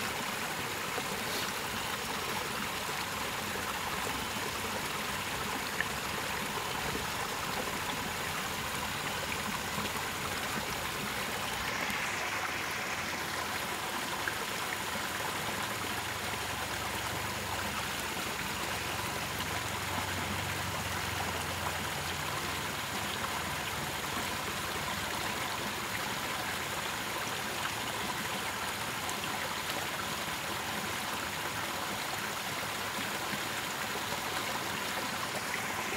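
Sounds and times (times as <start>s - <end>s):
water trickling over rocks: 0.0s - 35.9s.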